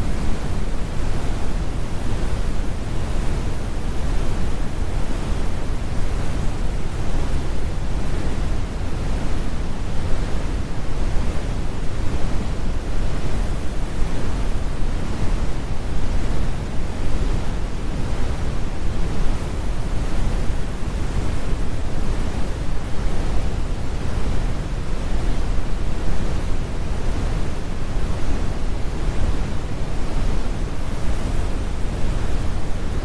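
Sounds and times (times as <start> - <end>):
brown noise rumble: 0.0 - 33.0.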